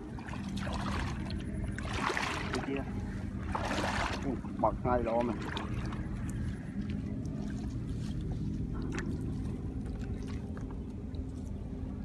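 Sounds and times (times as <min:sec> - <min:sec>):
small water splashes: 0:00.0 - 0:11.4
steady low rumble: 0:00.0 - 0:12.0.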